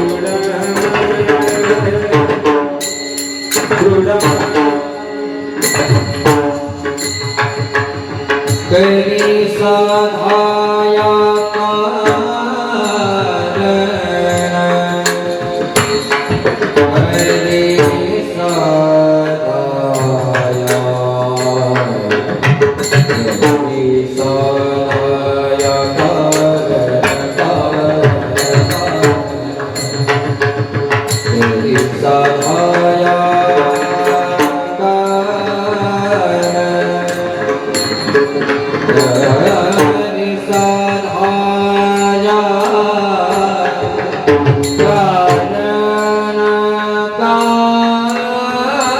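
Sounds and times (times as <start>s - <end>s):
person singing devotional song: 0.0s - 48.9s.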